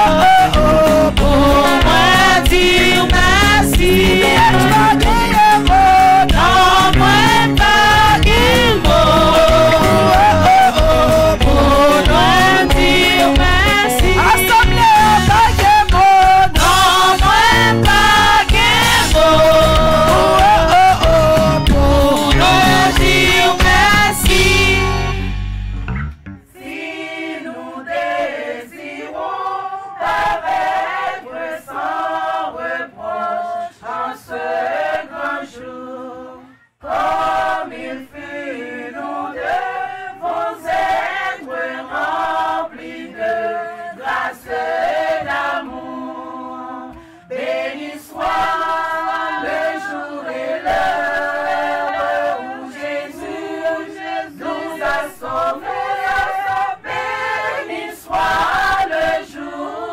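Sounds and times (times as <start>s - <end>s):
group singing a gospel hymn: 0.0s - 25.5s, 26.5s - 59.9s.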